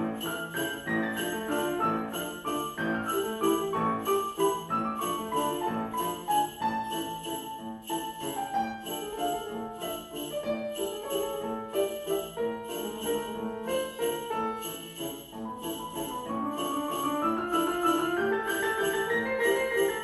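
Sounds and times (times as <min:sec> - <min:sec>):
grand pianos playing: 0:00.0 - 0:20.0
jingle bells shaken: 0:00.0 - 0:20.0.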